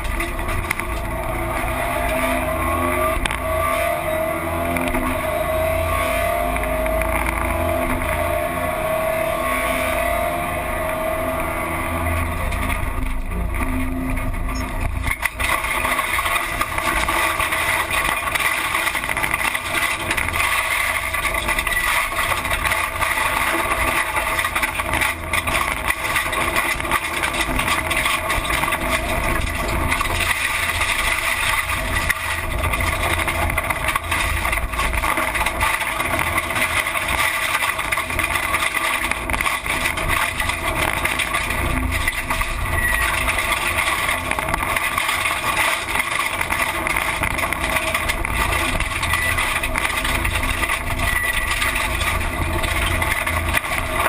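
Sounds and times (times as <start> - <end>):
car engine running: 0.0 - 54.0
road and wind noise: 0.0 - 54.0.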